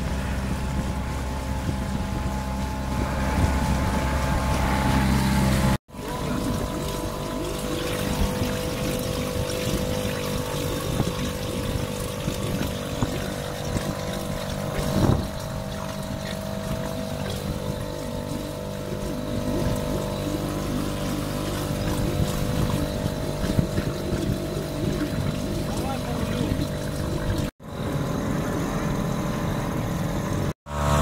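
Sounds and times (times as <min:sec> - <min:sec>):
outboard motor running: 0:00.0 - 0:31.0
water rushing along hulls: 0:00.0 - 0:31.0.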